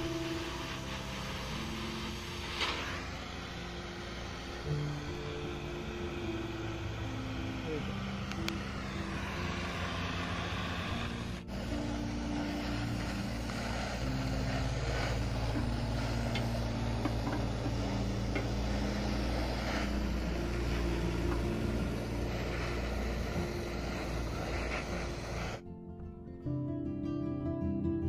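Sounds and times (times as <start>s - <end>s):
low droning hum: 0.0s - 25.6s
torch flame hissing: 0.0s - 25.6s.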